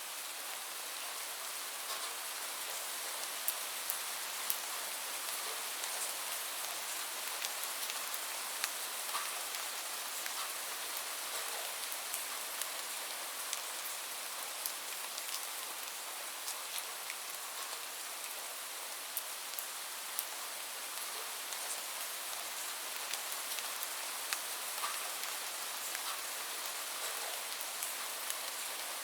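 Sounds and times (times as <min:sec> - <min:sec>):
light rain falling: 0:00.0 - 0:29.0
raindrops ticking on a surface: 0:01.8 - 0:29.0.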